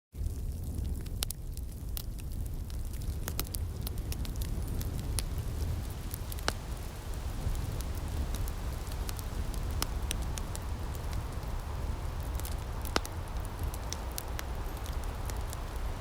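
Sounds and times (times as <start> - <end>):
wood fire crackling and popping: 0.1 - 16.0.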